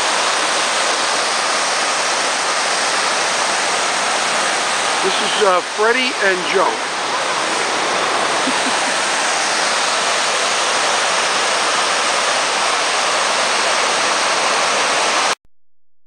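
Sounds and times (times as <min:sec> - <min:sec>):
waterfall rushing into basin: 0:00.0 - 0:15.4.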